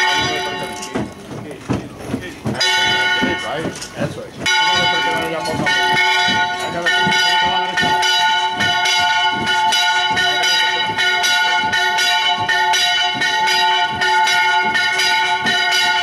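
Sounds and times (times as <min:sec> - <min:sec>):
church bells pealing: 0:00.0 - 0:01.6, 0:02.5 - 0:16.0.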